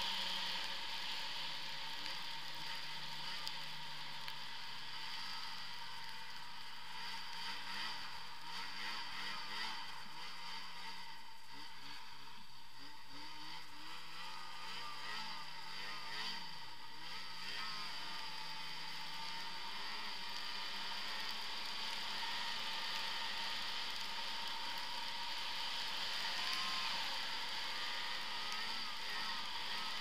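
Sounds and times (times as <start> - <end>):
steady hiss: 0.0 - 13.9, 14.6 - 30.0.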